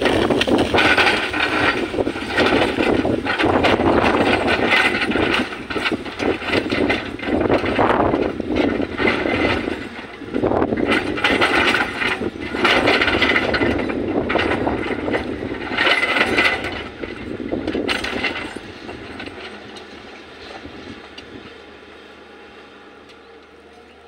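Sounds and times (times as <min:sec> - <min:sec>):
rattling and scraping: 0:00.0 - 0:22.0
excavator engine running: 0:00.0 - 0:24.0.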